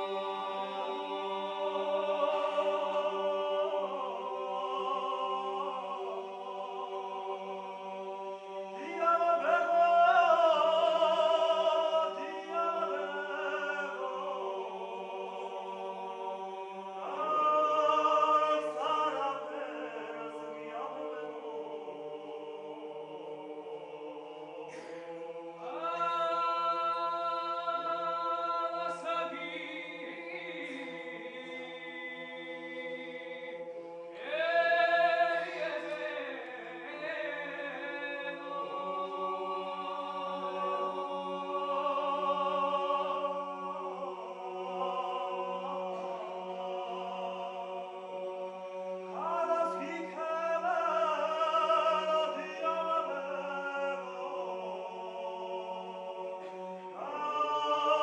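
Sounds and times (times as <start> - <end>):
low vocal drone: 0.0 - 58.0
male choir singing a cappella: 0.0 - 58.0.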